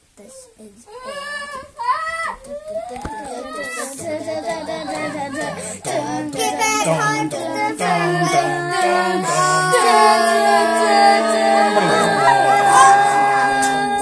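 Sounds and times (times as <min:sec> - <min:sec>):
children singing wordless tune: 0:00.0 - 0:14.0.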